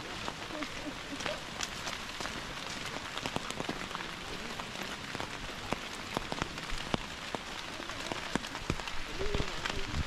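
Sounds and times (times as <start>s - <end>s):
heavy rain hissing: 0.0s - 10.0s
raindrops tapping close by: 0.0s - 10.0s.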